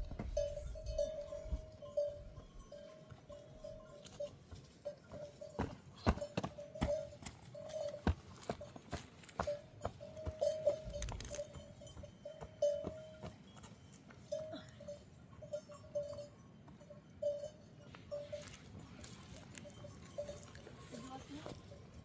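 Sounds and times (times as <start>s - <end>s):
livestock bells clanking: 0.0s - 22.0s.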